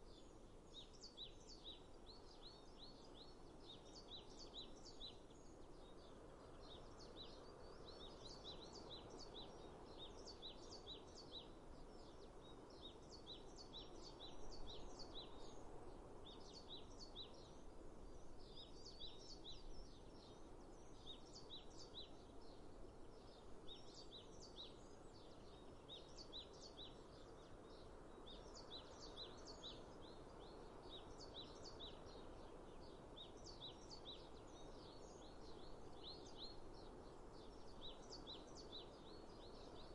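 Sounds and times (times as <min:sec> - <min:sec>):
outdoor background hiss: 0:00.0 - 0:39.9
small birds chirping: 0:00.0 - 0:39.9.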